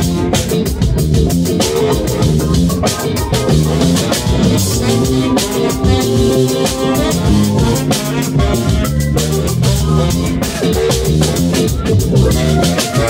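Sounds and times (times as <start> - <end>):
drum kit beat: 0.0 - 13.0
electric bass: 0.0 - 13.0
electric guitar: 0.0 - 13.0
keyboard: 0.0 - 13.0
saxophone: 0.0 - 13.0.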